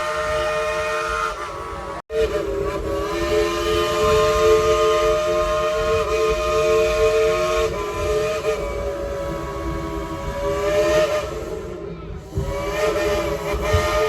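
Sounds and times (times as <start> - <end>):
steam locomotive chime whistle: 0.0 - 14.0.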